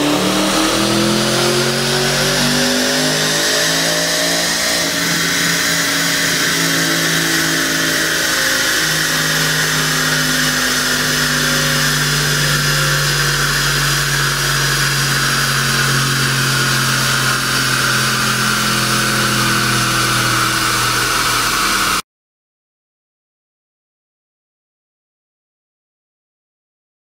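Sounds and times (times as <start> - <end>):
car engine droning: 0.0 - 22.0
wheels and rollers rushing: 0.0 - 22.0.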